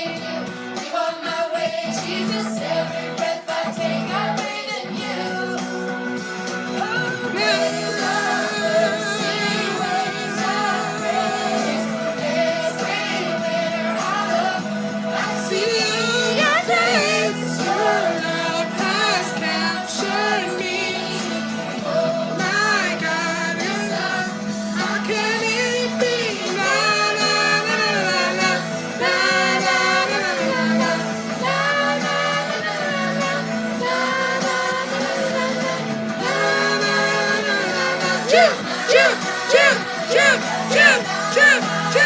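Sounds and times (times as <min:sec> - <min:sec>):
children's worship song with singing: 0:00.0 - 0:42.0.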